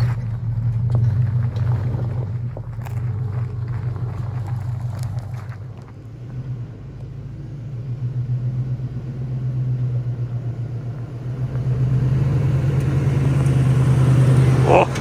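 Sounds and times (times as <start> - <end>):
vehicle engine low drone: 0.0 - 15.0.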